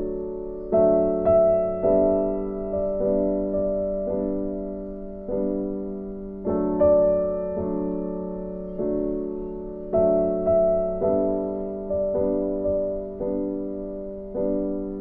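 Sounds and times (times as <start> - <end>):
soft piano slow chords: 0.0 - 15.0.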